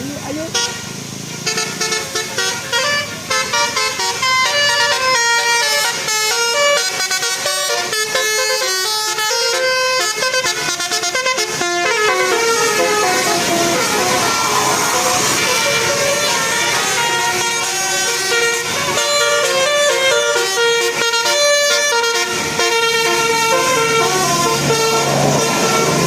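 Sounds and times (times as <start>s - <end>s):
rushing noise: 0.0s - 26.0s
musical bus horn tune: 0.4s - 26.0s.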